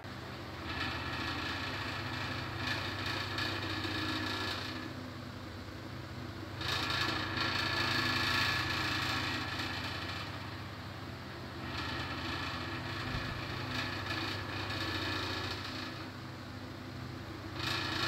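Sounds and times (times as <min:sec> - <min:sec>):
desk fan motor hum: 0:00.0 - 0:18.0.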